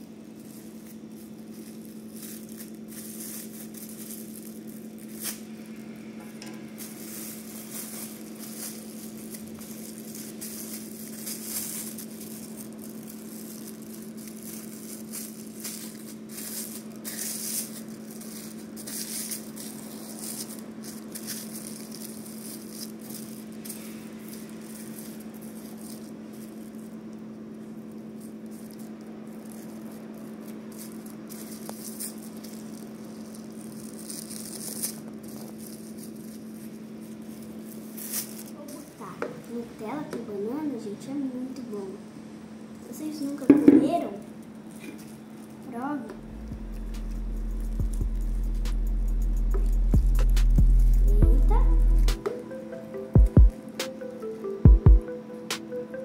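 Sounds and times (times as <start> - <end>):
plastic bag crinkling: 0.0 - 40.1, 43.2 - 52.2
low background hum: 0.0 - 56.0.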